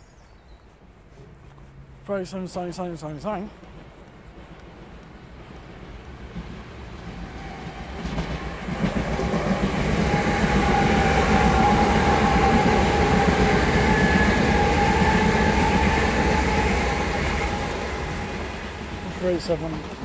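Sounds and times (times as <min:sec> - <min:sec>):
electric train passing: 0:01.6 - 0:20.0.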